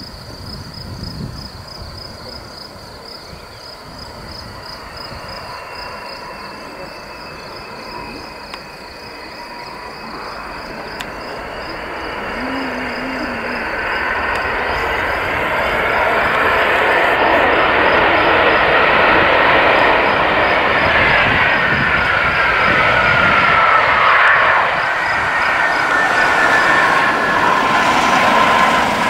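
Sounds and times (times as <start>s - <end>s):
crickets chirping: 0.0s - 29.0s
jet engines whining: 1.2s - 29.0s.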